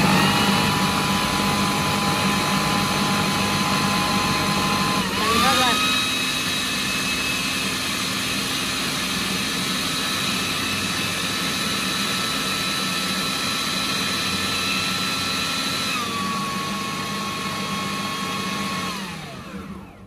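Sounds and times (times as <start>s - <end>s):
food processor motor whining: 0.0s - 20.0s.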